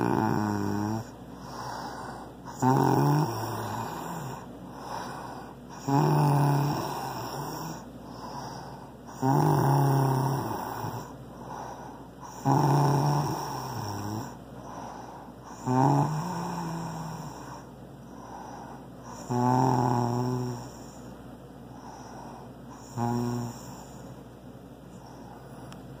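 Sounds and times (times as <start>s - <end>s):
snoring with buzzing rattle: 0.0s - 24.3s, 24.9s - 25.8s.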